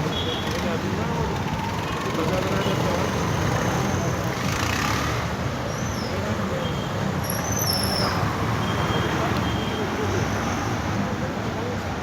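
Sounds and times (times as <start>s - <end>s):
roadside traffic noise: 0.0s - 12.0s.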